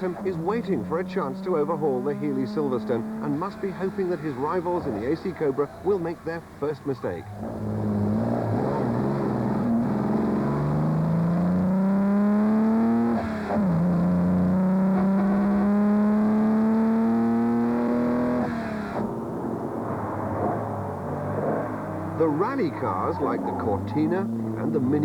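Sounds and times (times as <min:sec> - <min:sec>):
sports car engine accelerating: 0:00.0 - 0:05.8, 0:07.3 - 0:25.0.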